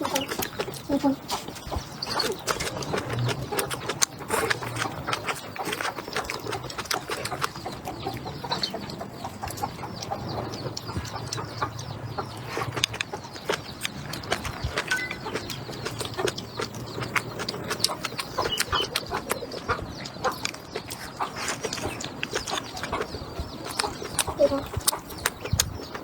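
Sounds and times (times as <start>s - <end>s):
chewing and mouth smacks: 0.0s - 26.0s.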